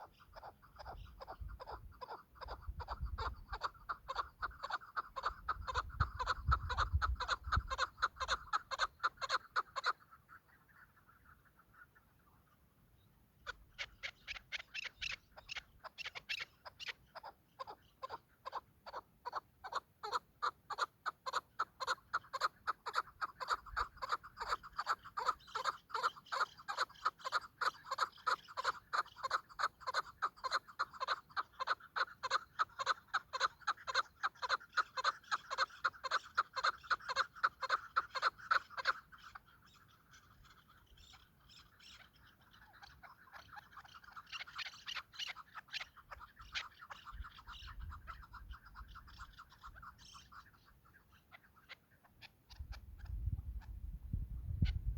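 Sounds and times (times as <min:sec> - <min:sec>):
partridge calling: 0:00.0 - 0:54.9.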